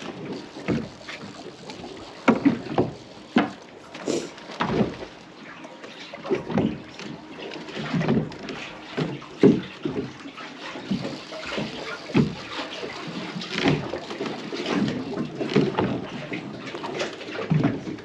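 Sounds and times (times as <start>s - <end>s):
water slapping against boat hull: 0.0s - 5.3s, 5.9s - 18.0s.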